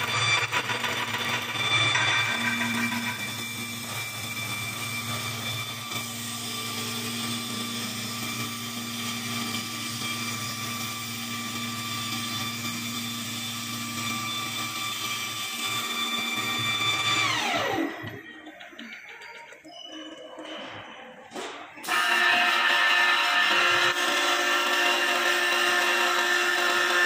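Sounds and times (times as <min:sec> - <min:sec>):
wood cutting: 0:00.0 - 0:18.3, 0:21.8 - 0:27.0
lathe motor whine: 0:00.0 - 0:19.7, 0:21.8 - 0:27.0.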